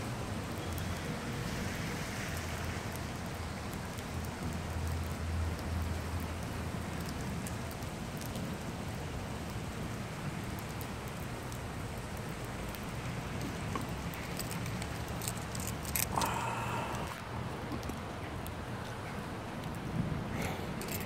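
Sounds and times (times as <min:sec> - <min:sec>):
rain on pavement and cars: 0:00.0 - 0:21.0.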